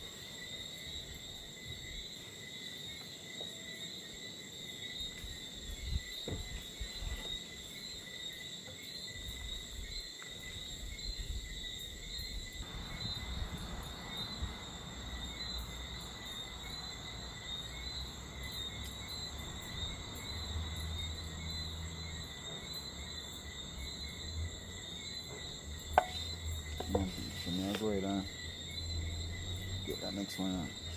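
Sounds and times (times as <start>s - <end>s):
crickets chirring: 0.0s - 30.9s.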